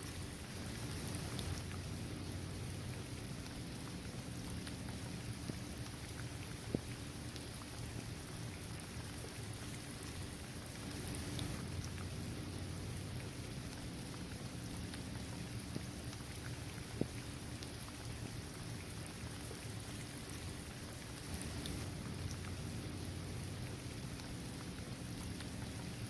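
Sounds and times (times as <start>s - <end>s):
steady rain falling: 0.0s - 26.0s
raindrops ticking: 0.1s - 9.4s, 10.2s - 26.0s.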